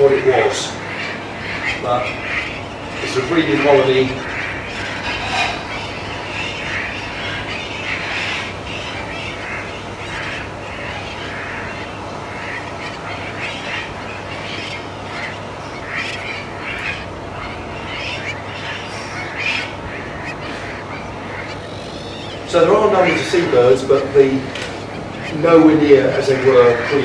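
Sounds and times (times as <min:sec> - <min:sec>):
seabird colony calling: 0:00.0 - 0:27.0.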